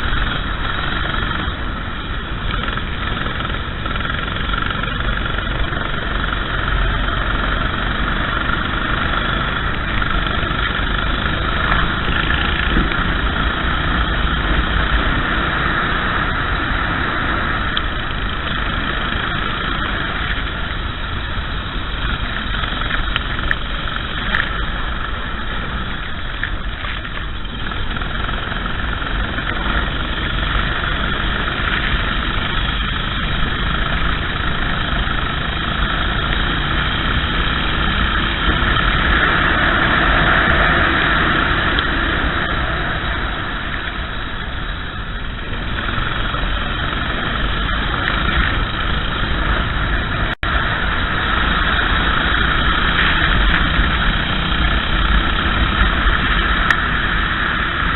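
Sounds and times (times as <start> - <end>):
kart engine running: 0.0 - 57.9
wet track noise: 0.0 - 57.9
wind noise: 0.0 - 57.9.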